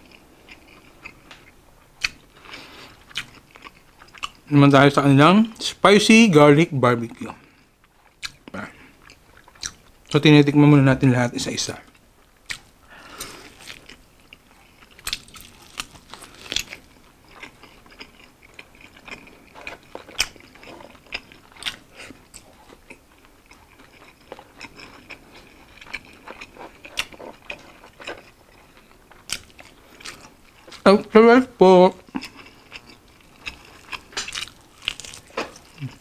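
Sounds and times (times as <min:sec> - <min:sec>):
person chewing crunchy chicken: 0:00.0 - 0:04.5, 0:07.4 - 0:10.0, 0:12.3 - 0:30.8, 0:32.0 - 0:36.0.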